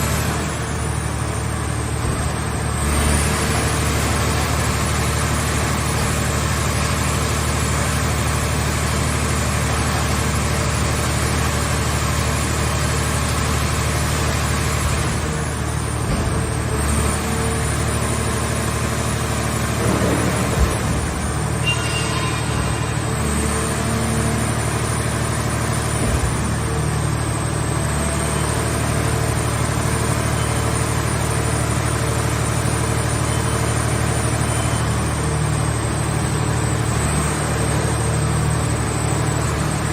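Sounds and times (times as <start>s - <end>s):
baler engine and hydraulics humming: 0.0s - 39.9s.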